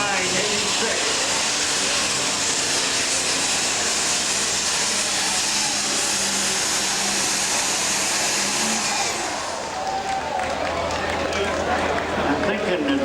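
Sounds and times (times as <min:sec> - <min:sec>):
tractor engine running flat out: 0:00.0 - 0:12.7.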